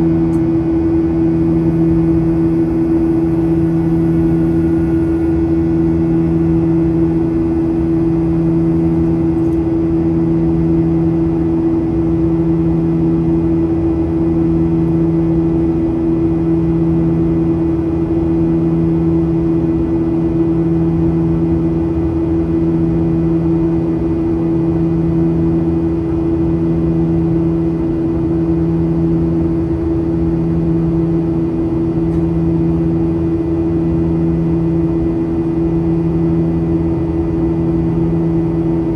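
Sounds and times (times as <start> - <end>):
jet engine drone: 0.0 - 38.9
pulsing low hum: 0.0 - 38.9.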